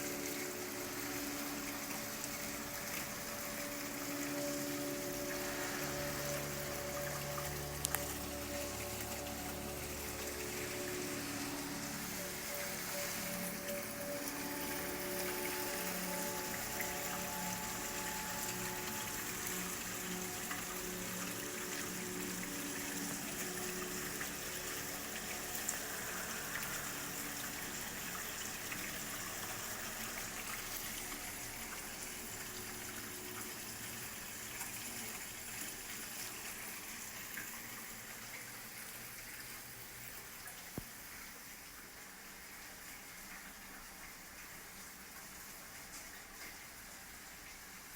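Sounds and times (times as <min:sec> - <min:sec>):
rain falling: 0:00.0 - 0:39.4
soft held music tones: 0:00.0 - 0:47.9.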